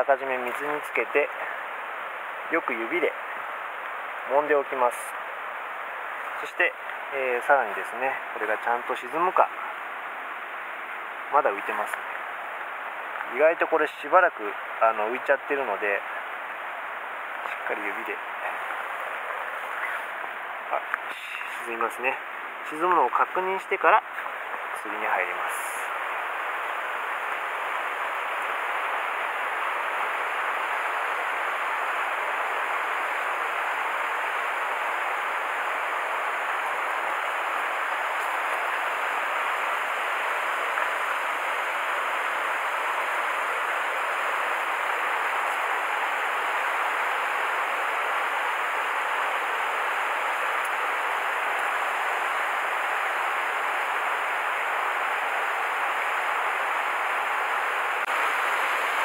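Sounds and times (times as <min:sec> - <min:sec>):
stream running over rocks: 0:00.1 - 0:59.0.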